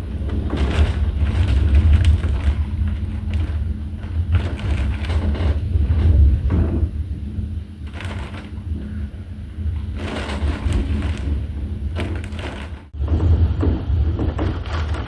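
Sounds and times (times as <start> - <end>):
hissing wind gusts: 0.0 - 13.0
wind buffeting microphone: 0.0 - 15.0.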